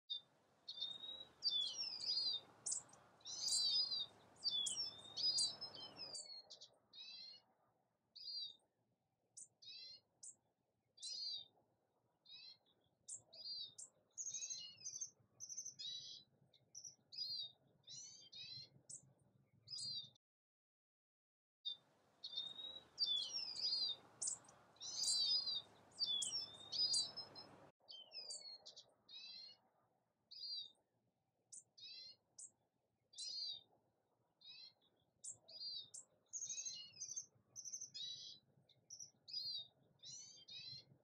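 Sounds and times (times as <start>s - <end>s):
songbirds singing: 0.0s - 7.6s, 8.2s - 11.6s, 12.2s - 20.2s, 21.7s - 41.0s.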